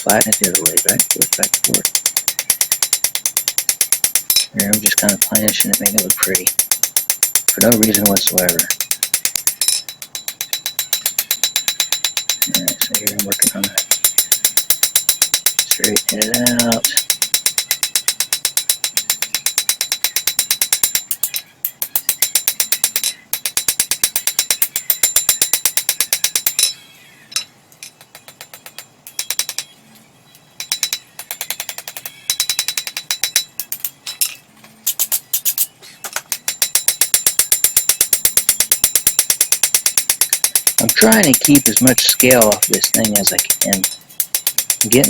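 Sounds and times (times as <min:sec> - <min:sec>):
hammer striking steel on anvil: 0:00.0 - 0:29.8, 0:30.6 - 0:45.0.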